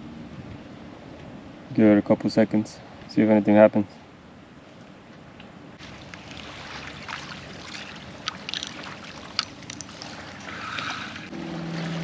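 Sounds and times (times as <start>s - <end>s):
water at the shoreline: 0.0s - 12.0s
wind: 0.0s - 12.0s.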